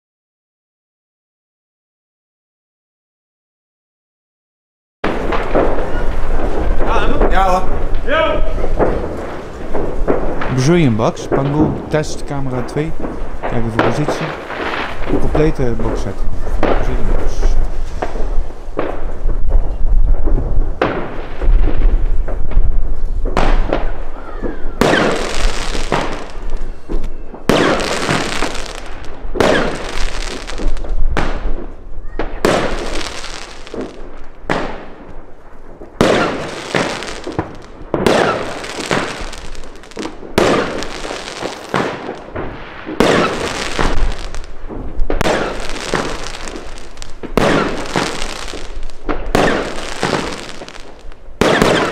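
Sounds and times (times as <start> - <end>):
firework shots: 5.0 - 51.9.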